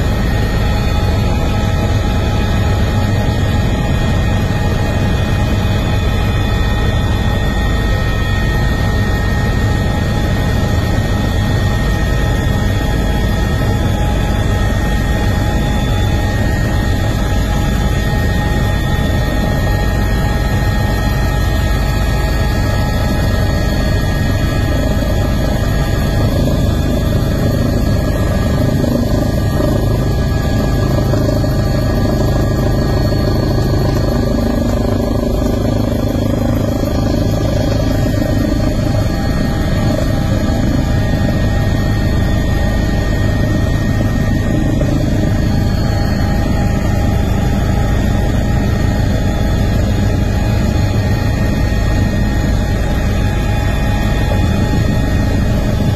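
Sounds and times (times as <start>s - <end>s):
aircraft engine rumble: 0.0s - 55.9s.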